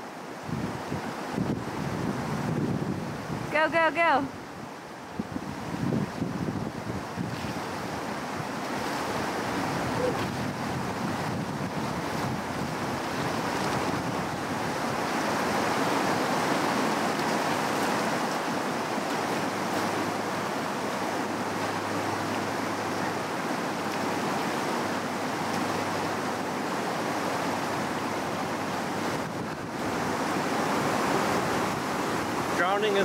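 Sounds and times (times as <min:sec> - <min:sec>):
river rushing over boulders: 0:00.0 - 0:33.0.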